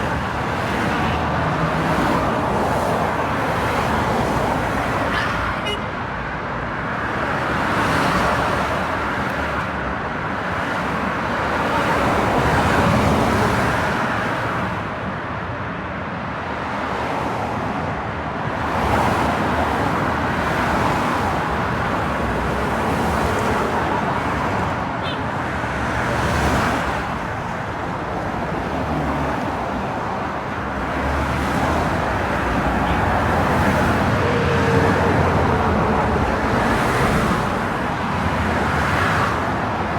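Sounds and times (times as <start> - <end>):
cars passing: 0.0 - 39.9
road traffic: 0.0 - 39.9.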